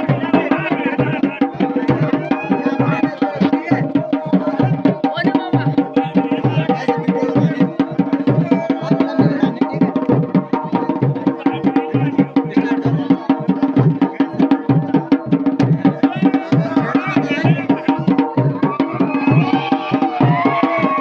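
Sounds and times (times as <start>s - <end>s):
folk drums in fast rhythm: 0.0s - 21.0s.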